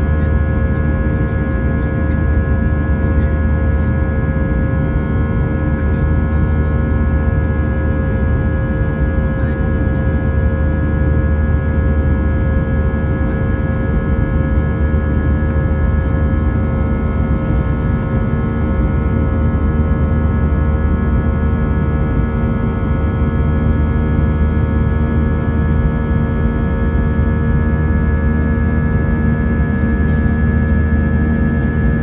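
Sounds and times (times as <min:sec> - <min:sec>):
high engine whine: 0:00.0 - 0:32.0
jet engine drone in cabin: 0:00.0 - 0:32.0.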